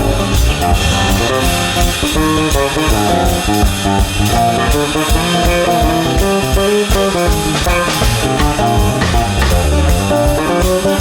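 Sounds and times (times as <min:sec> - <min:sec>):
bass guitar: 0:00.0 - 0:11.0
drum kit beat: 0:00.0 - 0:11.0
guitar chords: 0:00.0 - 0:11.0.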